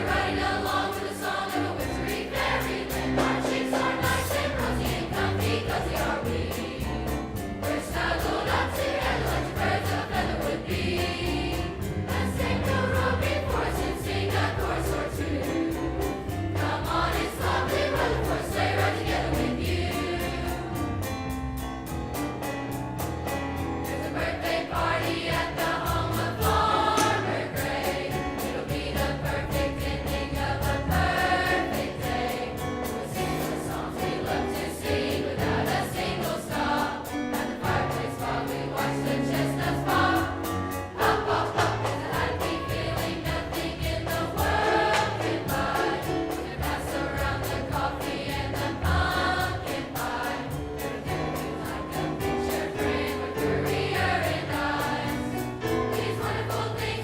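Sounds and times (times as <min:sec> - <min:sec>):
choir singing with instruments: 0:00.0 - 0:57.0.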